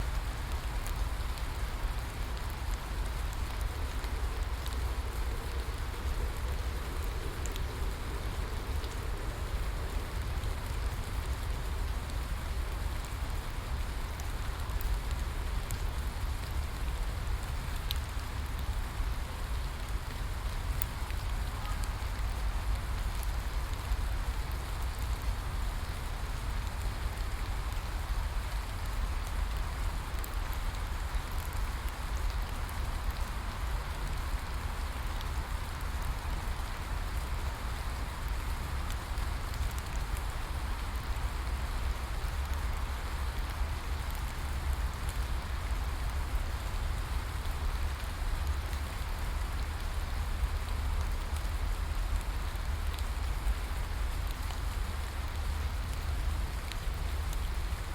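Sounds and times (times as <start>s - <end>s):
rain patter: 0.0s - 57.9s.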